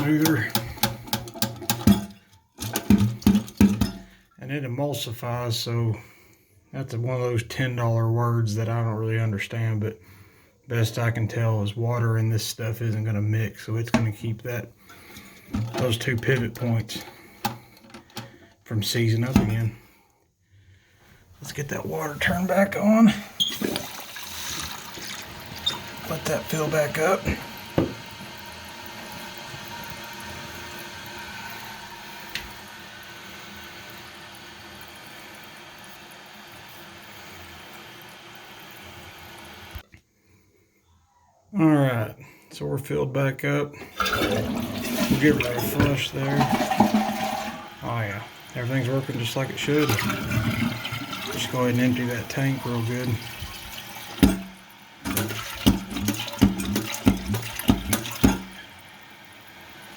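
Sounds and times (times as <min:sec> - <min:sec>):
toilet tank refilling hiss: 0:00.0 - 0:06.4, 0:10.0 - 0:20.2, 0:21.3 - 0:39.8, 0:43.8 - 0:59.9.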